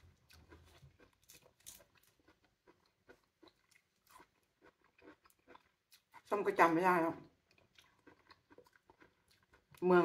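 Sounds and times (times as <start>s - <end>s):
person chewing fruit: 0.0s - 10.0s.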